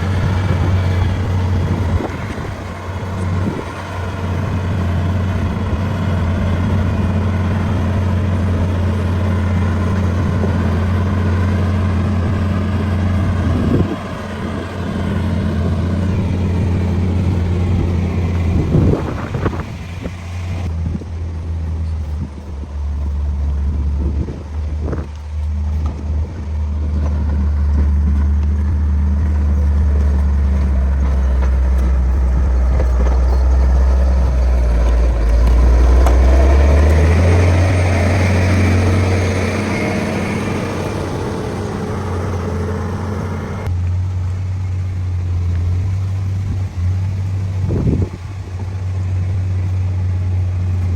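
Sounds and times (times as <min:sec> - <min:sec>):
heavy machine engine running: 0:00.0 - 0:50.9.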